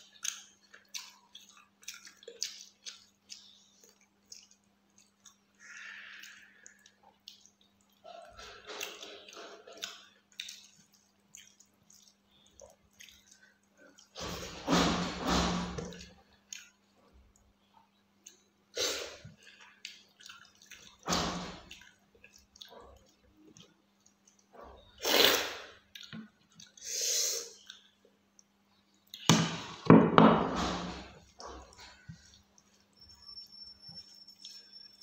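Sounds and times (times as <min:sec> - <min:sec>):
wet chewing and smacking: 0:00.0 - 0:14.6, 0:15.8 - 0:25.0, 0:25.8 - 0:26.8, 0:27.6 - 0:29.3, 0:31.2 - 0:33.0.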